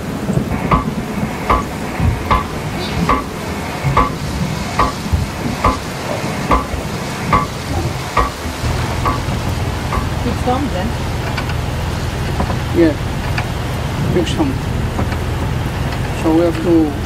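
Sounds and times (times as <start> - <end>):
heavy rain: 0.0 - 17.0
low hum: 0.0 - 17.0
metallic windlass clanking: 0.0 - 17.0.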